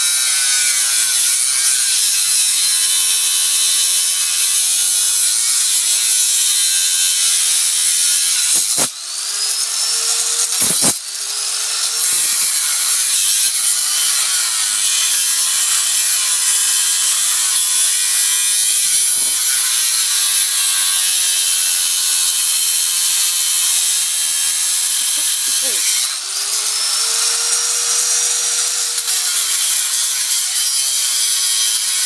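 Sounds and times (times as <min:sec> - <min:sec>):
angle grinder cutting metal: 0:00.0 - 0:32.0.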